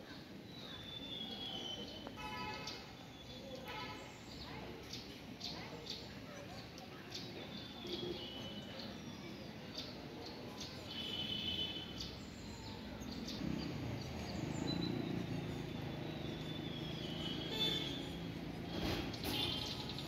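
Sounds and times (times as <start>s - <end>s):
outdoor background noise: 0.0s - 20.0s
small birds chirping: 0.0s - 20.0s.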